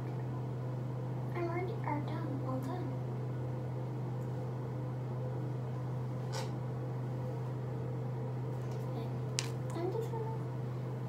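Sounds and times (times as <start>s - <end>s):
exhaust fan humming: 0.0s - 11.0s.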